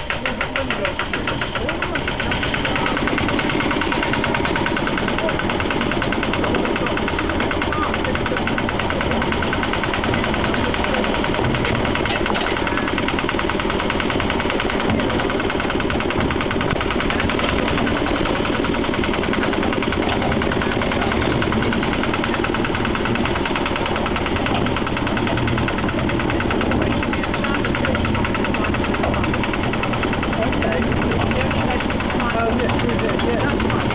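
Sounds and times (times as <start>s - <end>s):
diesel engine chugging: 0.0s - 33.9s.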